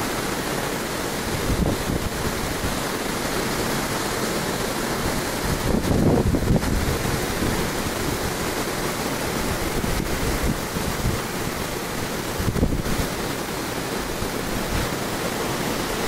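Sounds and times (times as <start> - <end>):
ocean surf breaking: 0.0 - 16.0
wind buffeting microphone: 1.1 - 3.3, 4.1 - 15.2.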